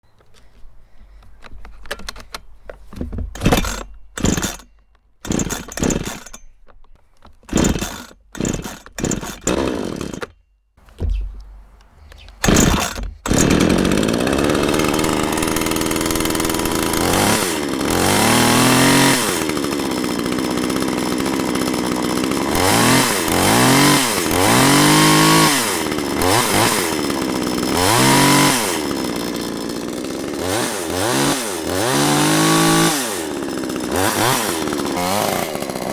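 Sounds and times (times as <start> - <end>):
chainsaw pull-starting: 0.2 - 35.9
chainsaw engine revving: 3.3 - 6.4, 7.4 - 10.3, 12.4 - 35.9.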